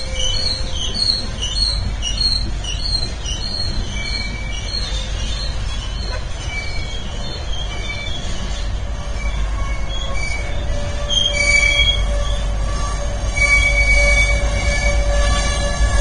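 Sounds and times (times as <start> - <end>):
train low rumble: 0.0 - 16.0
train wheels squealing: 0.0 - 16.0.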